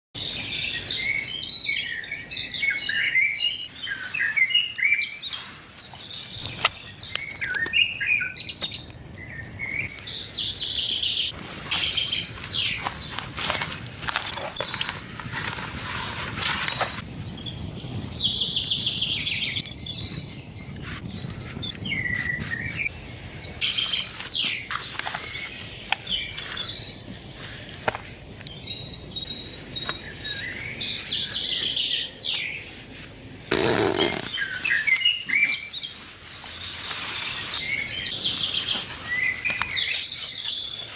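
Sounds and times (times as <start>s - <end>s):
songbirds chirping and singing: 0.2s - 16.0s, 16.7s - 40.9s.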